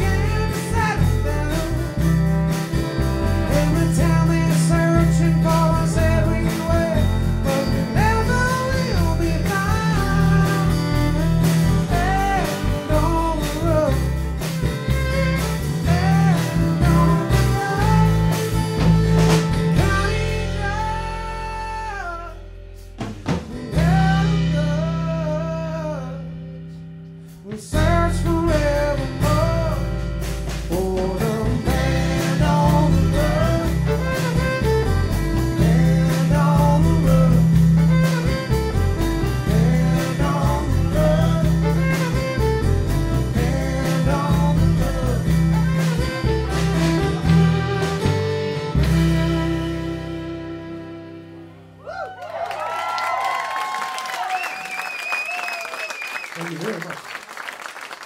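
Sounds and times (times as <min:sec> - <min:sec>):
person singing: 0:00.0 - 0:22.6, 0:23.7 - 0:26.7, 0:27.4 - 0:51.4
live band playing: 0:00.0 - 0:51.8.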